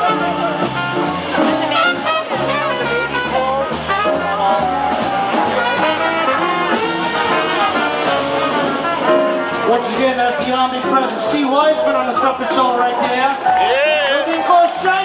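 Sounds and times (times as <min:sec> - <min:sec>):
swing band playing jazz: 0:00.0 - 0:15.0.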